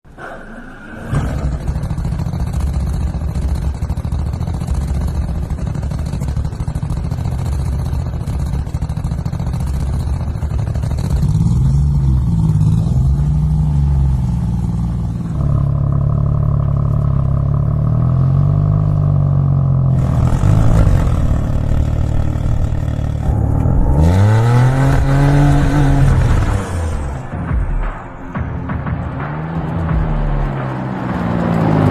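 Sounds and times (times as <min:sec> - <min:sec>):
car engine revving: 0:00.8 - 0:31.9.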